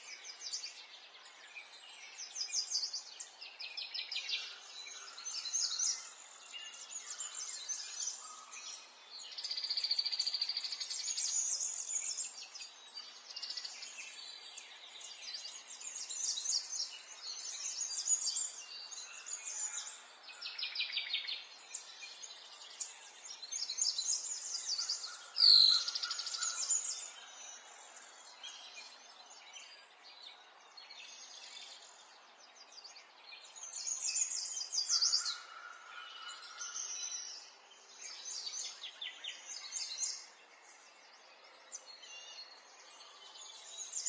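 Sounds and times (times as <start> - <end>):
songbirds singing and calling: 0.0 - 44.0.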